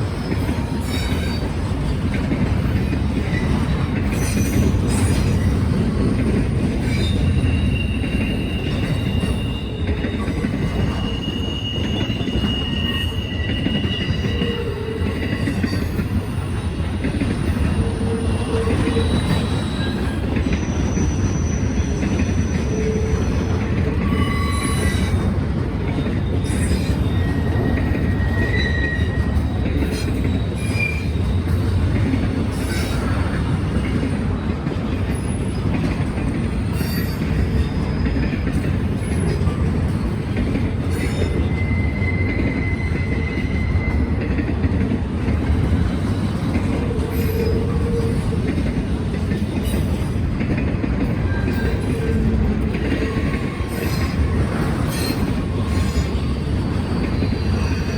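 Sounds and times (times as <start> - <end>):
freight train rumbling on rails: 0.0 - 57.9
wheel squeals: 2.7 - 34.1, 35.1 - 40.2, 40.8 - 44.5, 51.1 - 57.9.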